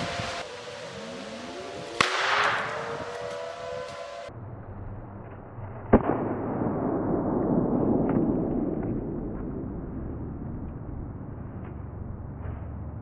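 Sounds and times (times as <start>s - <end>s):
rushing rumbling blast noise: 0.0s - 13.0s.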